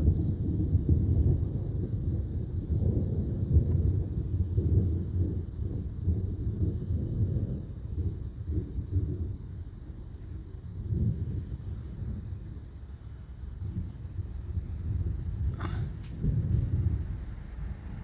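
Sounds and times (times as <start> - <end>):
crickets chirping: 0.0 - 18.0
low rolling thunder: 0.0 - 18.0.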